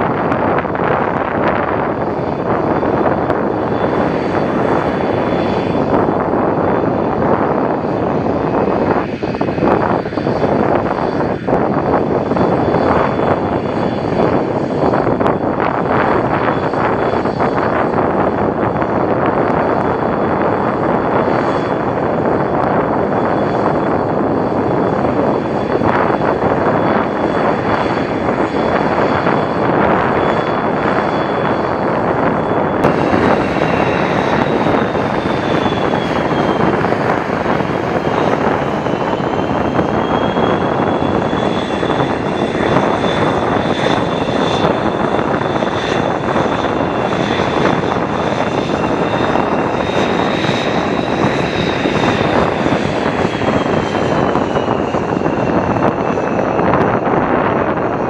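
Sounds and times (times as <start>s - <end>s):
jet engines running with high whine: 0.0s - 58.0s.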